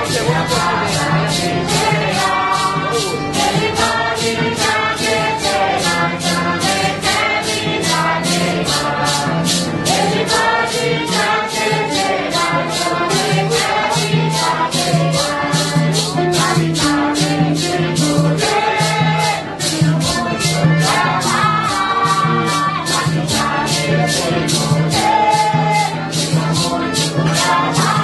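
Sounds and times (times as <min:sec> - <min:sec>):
group singing a hymn: 0:00.0 - 0:28.0
low instrument notes: 0:00.0 - 0:28.0
maracas shaking: 0:00.0 - 0:28.0.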